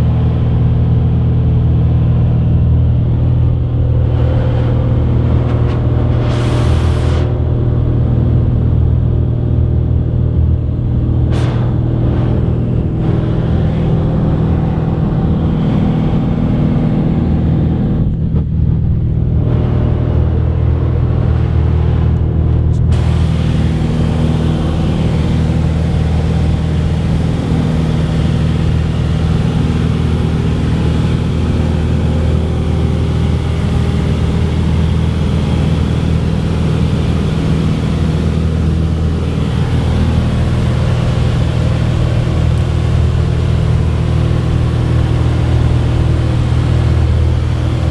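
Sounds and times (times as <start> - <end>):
propeller plane engine drone: 0.0 - 47.9.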